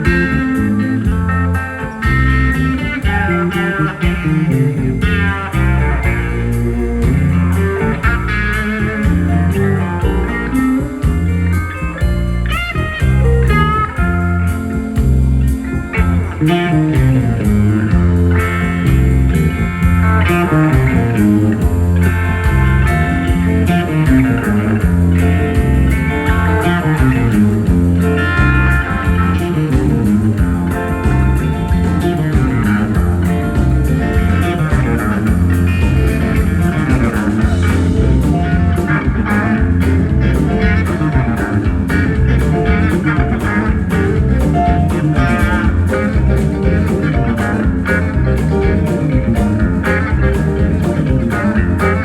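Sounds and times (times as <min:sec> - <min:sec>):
bass guitar: 0:00.0 - 0:52.0
drums: 0:00.0 - 0:52.0
electric guitar runs: 0:00.0 - 0:52.0.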